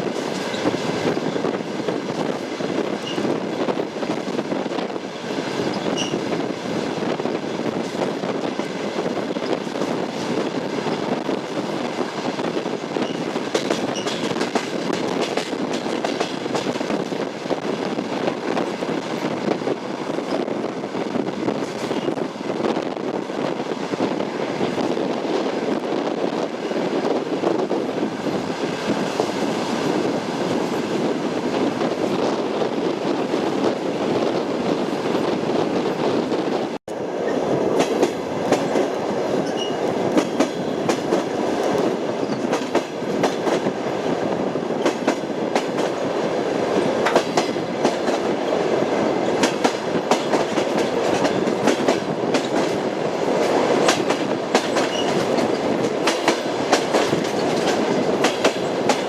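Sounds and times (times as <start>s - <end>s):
train running rumble: 0.0s - 59.0s
train wheels clickety-clack: 0.0s - 59.0s.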